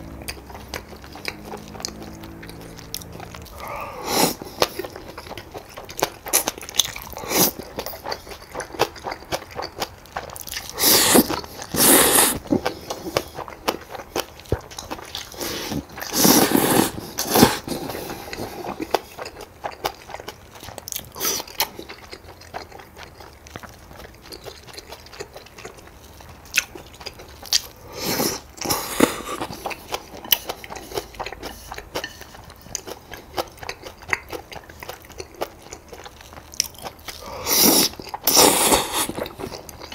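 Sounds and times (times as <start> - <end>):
chewing with wet mouth clicks: 0.0 - 16.4, 17.2 - 39.9.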